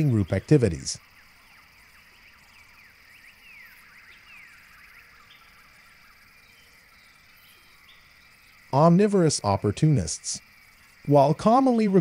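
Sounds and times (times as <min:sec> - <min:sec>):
small birds chirping: 0:00.0 - 0:12.0
steady hiss: 0:00.0 - 0:12.0.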